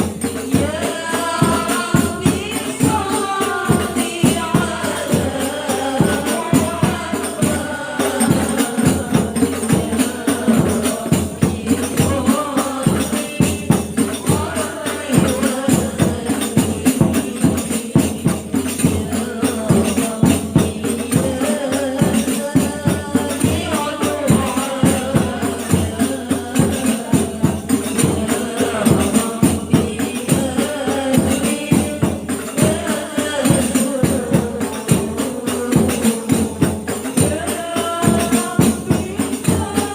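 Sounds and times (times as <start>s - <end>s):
frame drums and jingles beating: 0.0s - 39.9s
women singing together: 0.0s - 39.9s.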